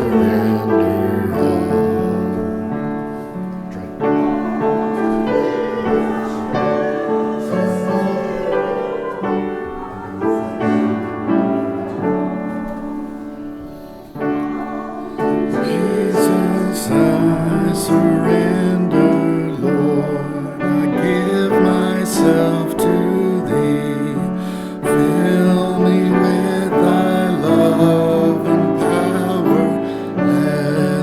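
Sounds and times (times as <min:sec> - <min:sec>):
hymn singing: 0:00.0 - 0:31.0
piano chords: 0:00.0 - 0:31.0.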